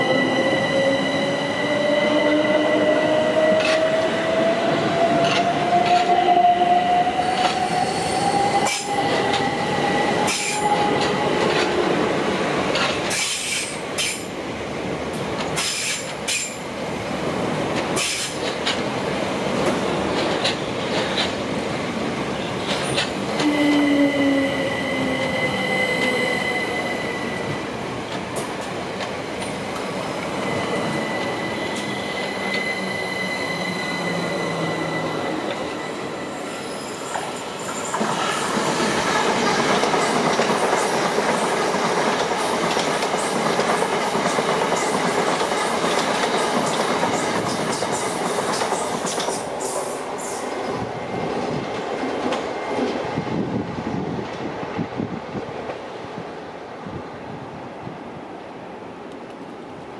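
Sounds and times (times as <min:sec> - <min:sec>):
rushing rumble of moving train: 0:00.0 - 0:59.9.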